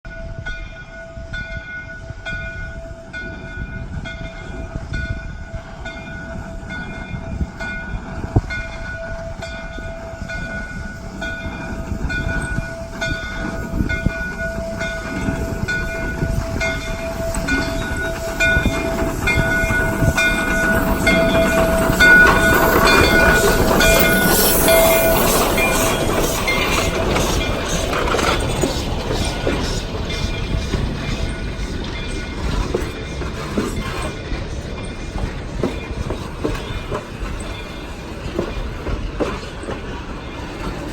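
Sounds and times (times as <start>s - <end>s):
locomotive bell ringing: 0.1s - 40.9s
steam locomotive passing: 0.1s - 40.9s.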